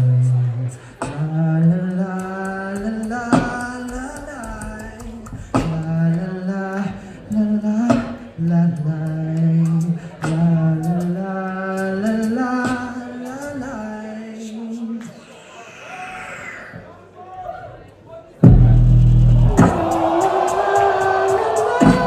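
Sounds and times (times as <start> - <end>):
beatboxing through microphone: 0.0 - 16.9, 18.4 - 22.0.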